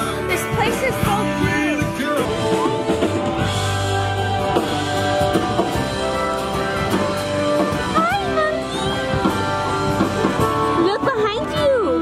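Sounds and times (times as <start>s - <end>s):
background music with drums and guitar: 0.0s - 12.0s.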